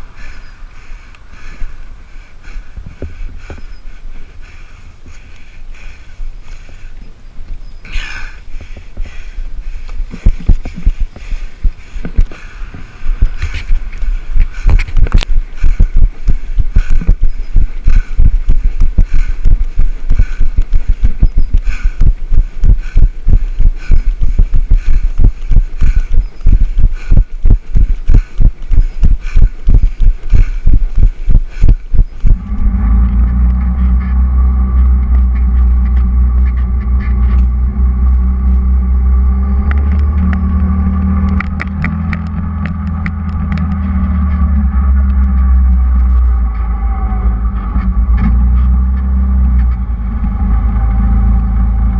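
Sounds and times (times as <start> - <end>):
low rumble with hum: 0.0 - 51.9.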